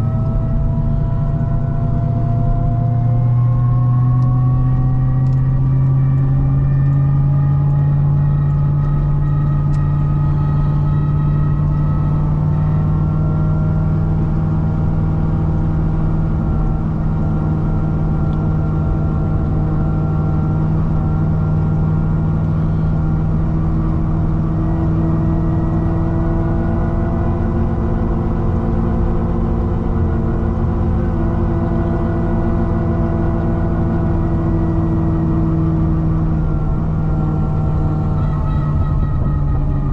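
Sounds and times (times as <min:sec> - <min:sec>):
car engine droning at cruise: 0:00.0 - 0:39.9.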